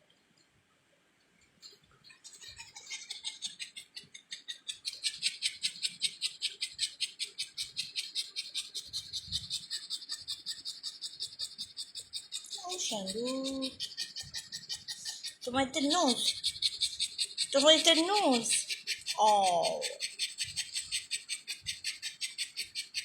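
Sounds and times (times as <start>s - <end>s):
rapid rhythmic scratching: 2.2s - 23.0s.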